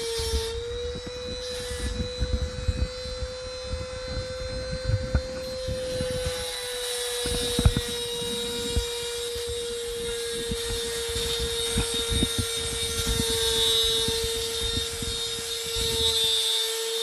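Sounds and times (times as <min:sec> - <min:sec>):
rotary tool grinding metal: 0:00.0 - 0:17.0.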